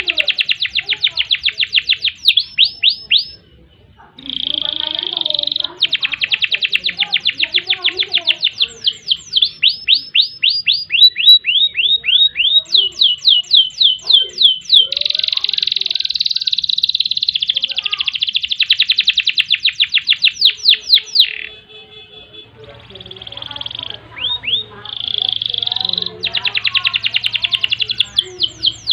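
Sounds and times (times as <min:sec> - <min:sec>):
canary singing trills: 0:00.0 - 0:28.9.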